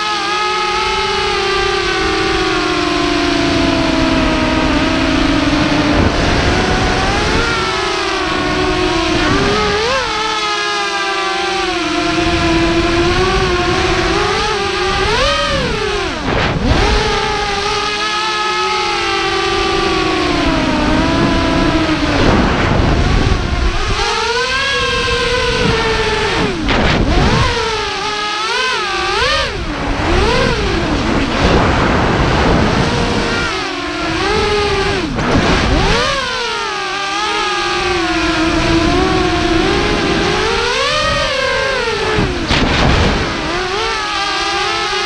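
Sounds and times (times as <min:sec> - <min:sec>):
quadcopter motors whining: 0:00.0 - 0:45.0
wind rushing on microphone: 0:00.7 - 0:10.6, 0:11.2 - 0:45.0.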